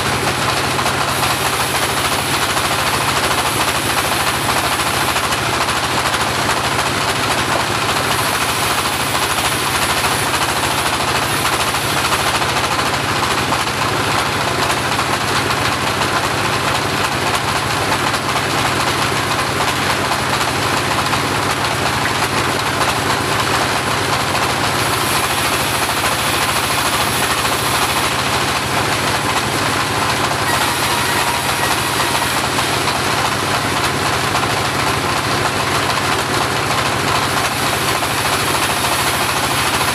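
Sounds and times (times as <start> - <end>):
bandsaw running: 0.0 - 39.9.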